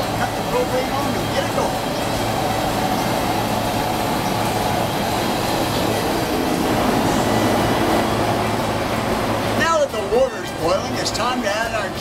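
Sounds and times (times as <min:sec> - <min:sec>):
propane burner rushing: 0:00.0 - 0:12.0.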